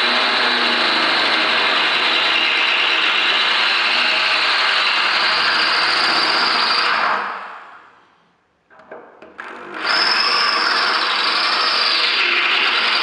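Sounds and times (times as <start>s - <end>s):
electric drill boring into metal: 0.0s - 7.3s, 9.4s - 13.0s.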